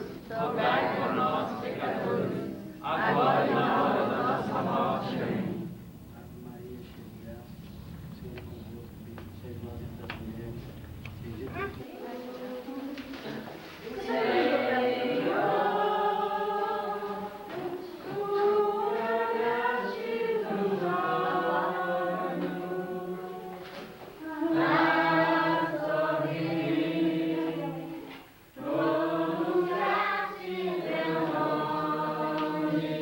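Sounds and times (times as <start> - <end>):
group singing a hymn: 0.0 - 33.0.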